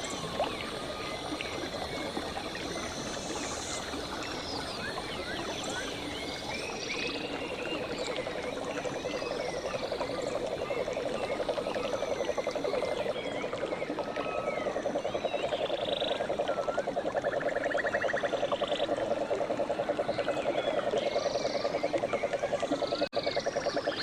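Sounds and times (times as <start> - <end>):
frogs low pulsing trill: 0.0 - 24.0.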